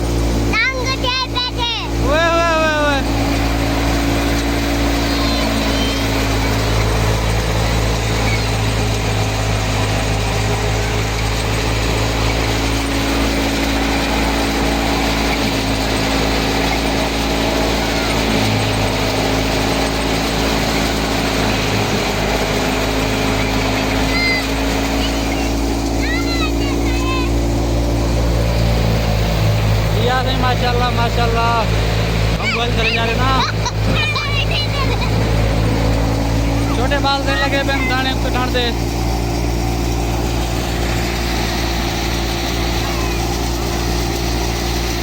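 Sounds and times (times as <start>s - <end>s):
tractor diesel engine droning: 0.0s - 45.0s.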